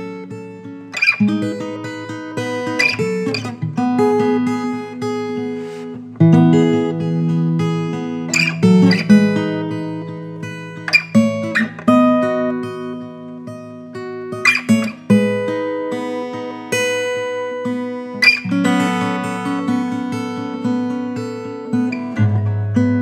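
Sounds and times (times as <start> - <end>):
acoustic guitar fingerstyle: 0.0 - 23.0
strummed guitar accents: 0.0 - 23.0.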